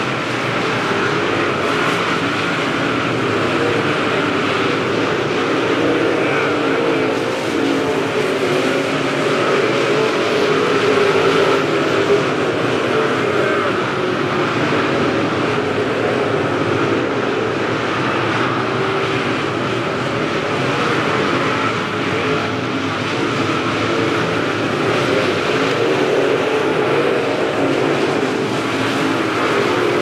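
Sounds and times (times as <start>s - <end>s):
race car engines roaring: 0.0s - 30.0s.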